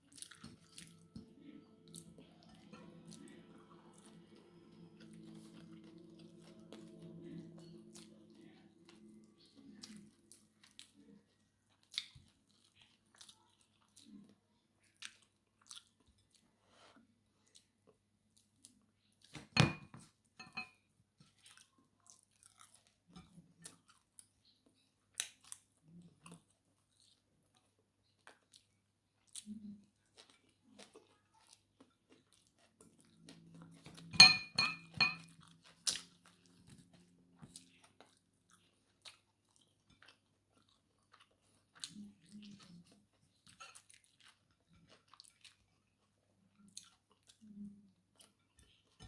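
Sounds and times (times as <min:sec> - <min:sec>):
chewing and crunching: 0:00.0 - 0:49.0.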